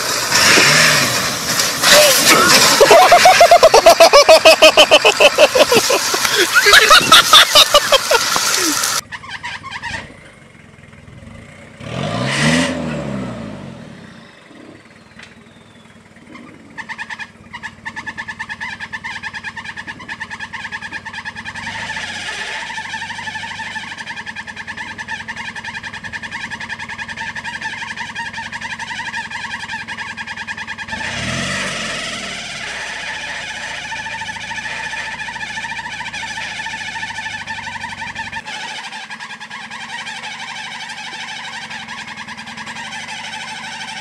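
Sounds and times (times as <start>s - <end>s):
engine revving: 0.0s - 10.3s, 11.0s - 15.4s, 16.1s - 44.0s
engine running steadily: 0.0s - 12.0s, 13.4s - 44.0s
pickup engine under hard throttle: 0.0s - 44.0s.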